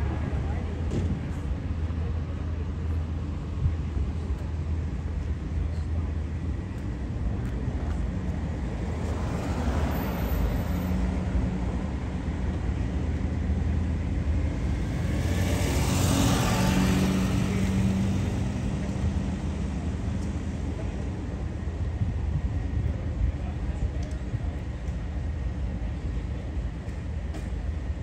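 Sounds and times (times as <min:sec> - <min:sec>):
traffic rumble: 0:00.0 - 0:28.0
vehicles driving past: 0:00.0 - 0:28.0.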